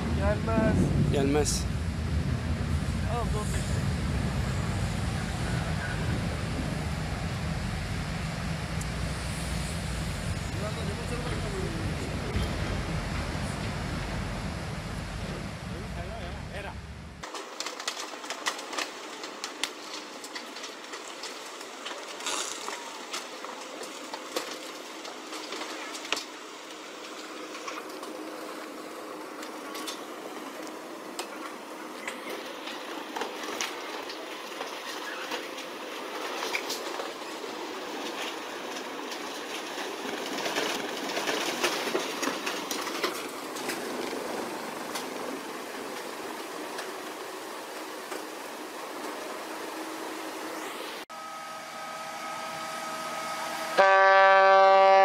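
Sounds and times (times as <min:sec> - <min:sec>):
boats cracking and creaking: 0:00.0 - 0:50.7.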